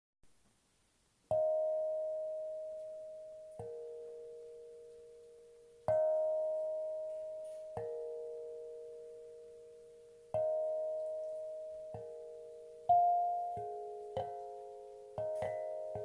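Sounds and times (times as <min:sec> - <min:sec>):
steel tongue drum notes ringing: 0:01.3 - 0:16.0.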